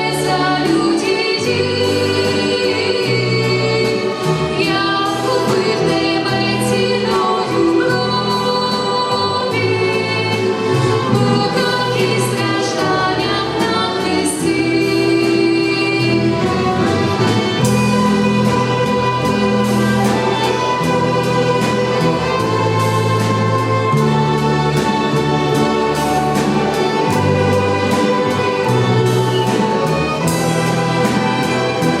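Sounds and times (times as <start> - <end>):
choir singing a hymn: 0.0 - 32.0
orchestral accompaniment: 0.0 - 32.0.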